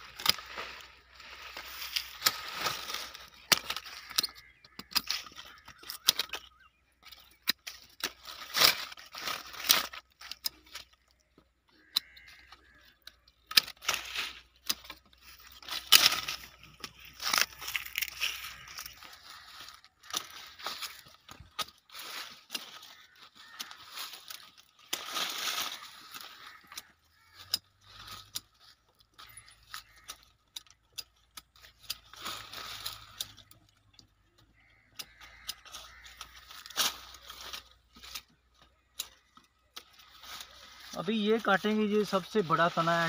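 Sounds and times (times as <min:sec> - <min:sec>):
pruning shears snipping: 0:00.0 - 0:11.2, 0:11.8 - 0:43.0
leaves and branches rustling: 0:00.0 - 0:43.0.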